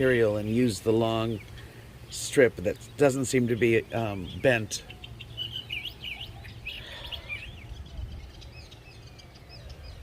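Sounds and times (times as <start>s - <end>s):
songbirds chirping and whistling: 0.0s - 10.0s.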